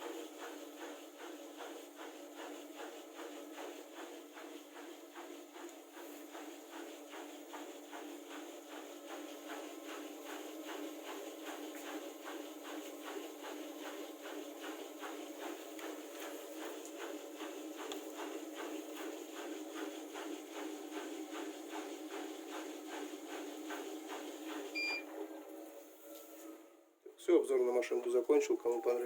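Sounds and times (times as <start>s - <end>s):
washing machine humming: 0.0s - 26.0s, 27.1s - 29.0s.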